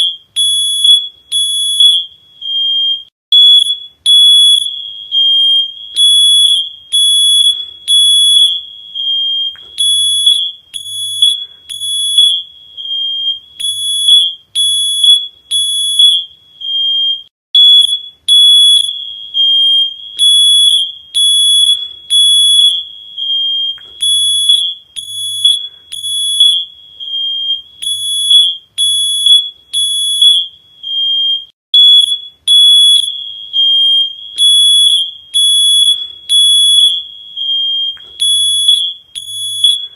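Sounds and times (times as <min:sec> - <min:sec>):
shrill electronic alarm pulses: 0:00.0 - 0:39.9.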